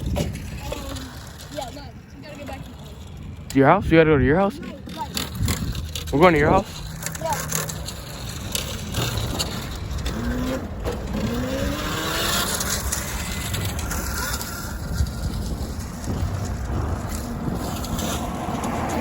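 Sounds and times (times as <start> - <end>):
bicycle road noise: 0.0 - 19.0
wind rumbling on microphone: 0.0 - 19.0.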